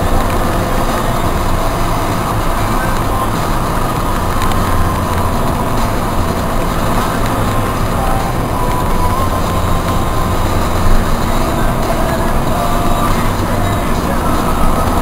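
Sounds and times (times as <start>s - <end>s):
car engine and tyre drone: 0.0s - 15.0s.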